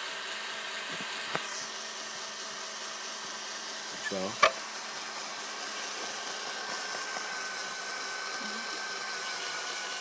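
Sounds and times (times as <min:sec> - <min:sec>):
engine valve grinding: 0:00.1 - 0:10.0.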